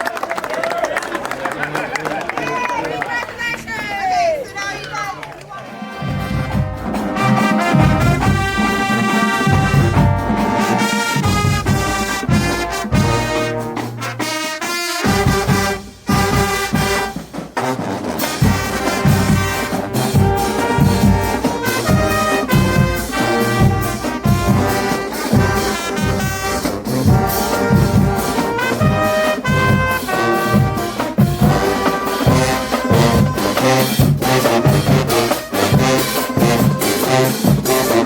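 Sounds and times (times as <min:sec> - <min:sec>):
brass section playing: 0:02.6 - 0:38.0
steady drum beat: 0:05.7 - 0:38.0.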